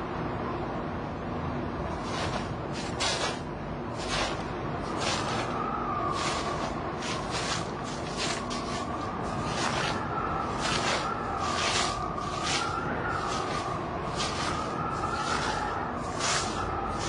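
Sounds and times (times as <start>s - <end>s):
wind howling and whistling: 0.0s - 17.0s
footsteps crunching in snow: 2.0s - 17.0s.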